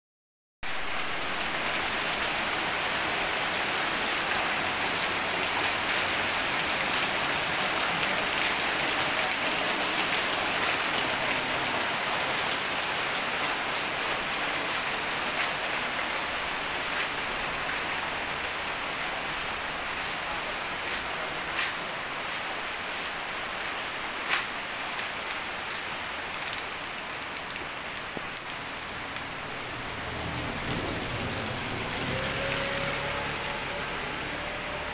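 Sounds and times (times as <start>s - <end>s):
rain on pavement and water: 0.6s - 34.9s.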